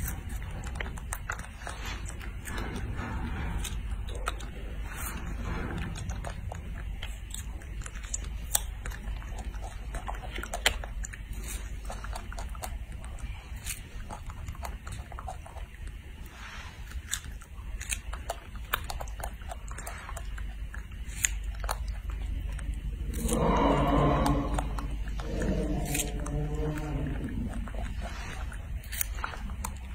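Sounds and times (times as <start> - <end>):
low steady hum: 0.0 - 29.9
monkey chewing wet smacks: 0.0 - 29.9.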